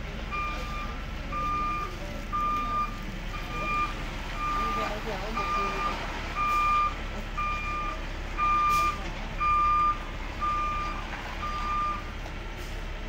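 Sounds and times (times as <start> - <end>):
truck reversing alarm beeps: 0.0 - 12.2.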